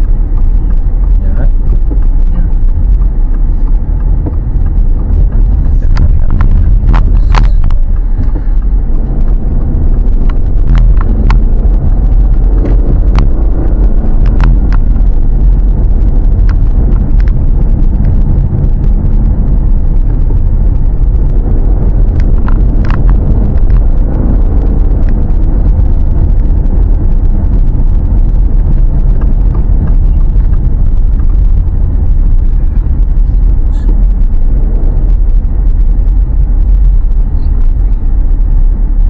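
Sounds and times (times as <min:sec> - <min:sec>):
car engine and road noise: 0:00.0 - 0:39.0
sharp clicks and rattles: 0:00.0 - 0:39.0.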